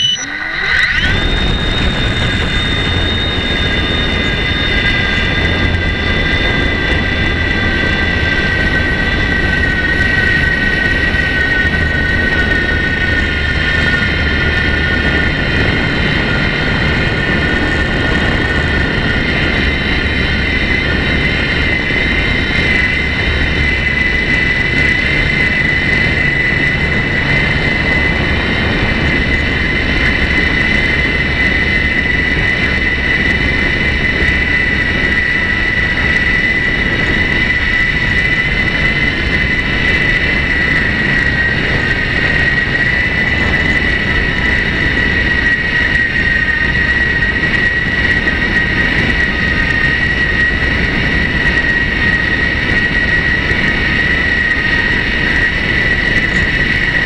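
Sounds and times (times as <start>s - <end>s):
model airplane motor whine: 0.0s - 57.0s
wind rumbling on microphone: 0.0s - 57.0s.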